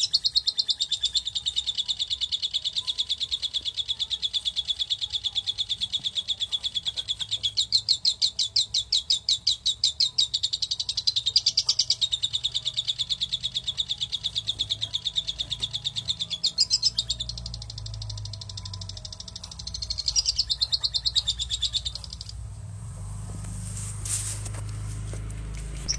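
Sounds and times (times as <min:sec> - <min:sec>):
parrot chick begging calls: 0:00.0 - 0:22.4.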